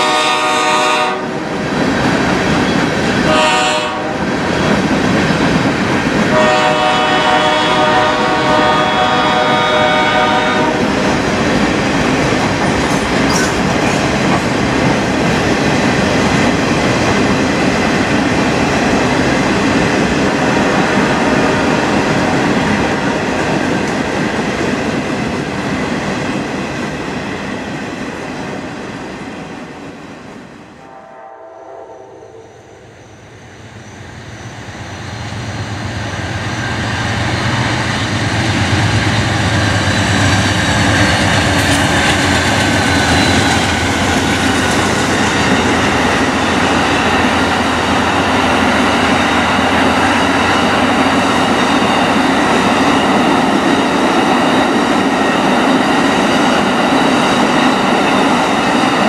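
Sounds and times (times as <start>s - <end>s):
freight train rolling past: 0.0s - 59.0s
passenger train passing: 0.0s - 59.0s.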